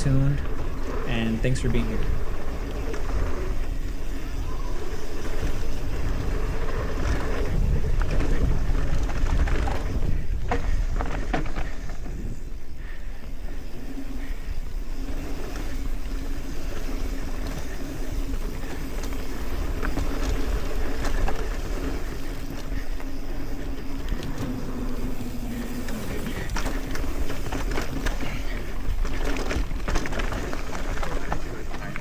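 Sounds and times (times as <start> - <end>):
bike clicks and rattles: 0.0 - 32.0
bike tyre rumble: 0.0 - 32.0
wind buffeting microphone: 0.0 - 32.0.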